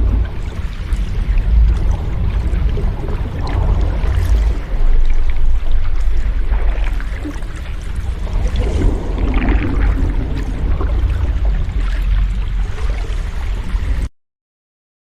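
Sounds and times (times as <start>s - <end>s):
sea waves washing: 0.0s - 14.1s.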